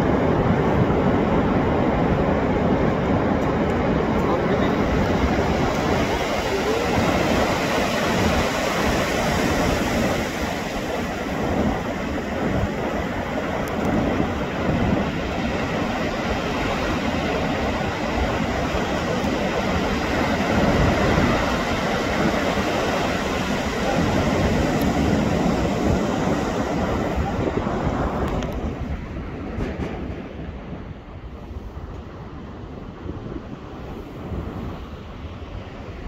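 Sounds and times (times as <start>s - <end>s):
ocean surf: 0.0s - 36.0s
wind: 0.0s - 36.0s.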